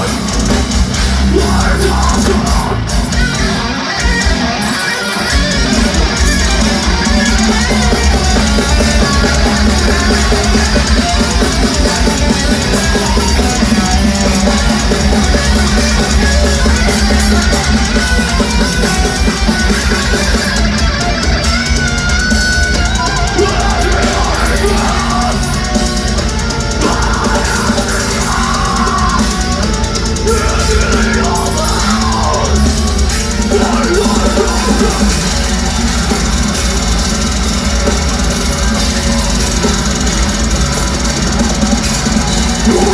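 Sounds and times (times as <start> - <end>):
distorted electric guitars: 0.0 - 42.9
fast drum kit: 0.0 - 42.9.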